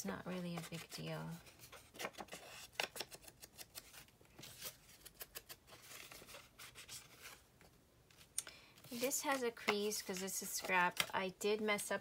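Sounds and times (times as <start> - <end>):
paper rustling: 0.5 - 7.5, 8.1 - 11.1.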